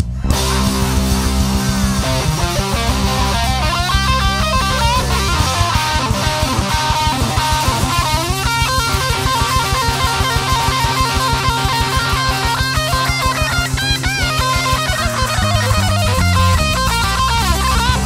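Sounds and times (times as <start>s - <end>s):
electric guitar lead: 0.0s - 18.0s
steady beat: 0.0s - 18.0s.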